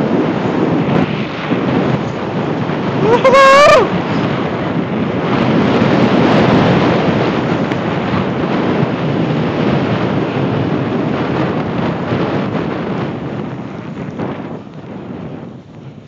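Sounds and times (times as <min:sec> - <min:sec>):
snowboard sliding through snow: 0:00.0 - 0:16.0
wind over microphone: 0:00.0 - 0:16.0.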